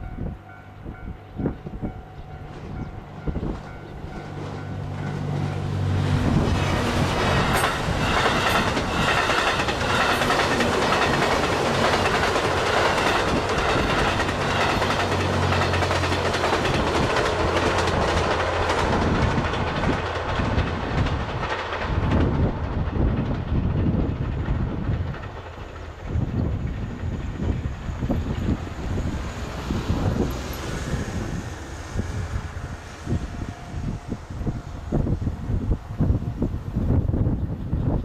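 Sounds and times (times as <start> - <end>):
train engine hum: 0.0 - 38.0
wheels clacking over rail joints: 2.2 - 34.1.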